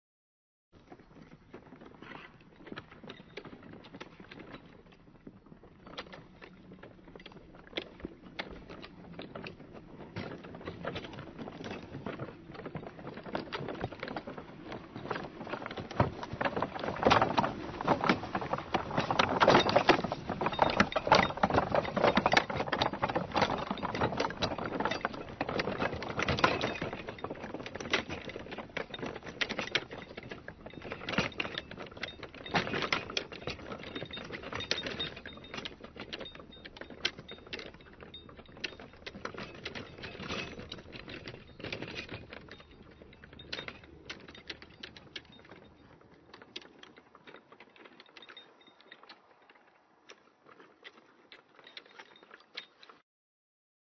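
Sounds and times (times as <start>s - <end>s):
horse-drawn cart rattling: 0.8s - 53.0s.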